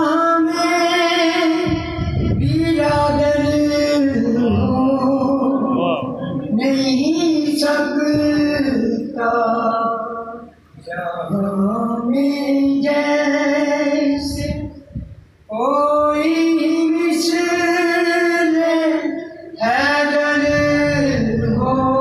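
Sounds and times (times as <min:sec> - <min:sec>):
man singing unaccompanied: 0:00.0 - 0:14.9, 0:15.5 - 0:22.0.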